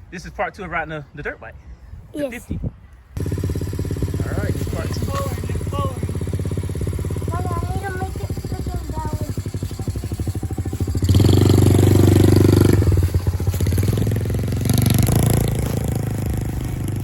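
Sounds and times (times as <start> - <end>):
dirt bike engine revving: 3.2 - 17.0.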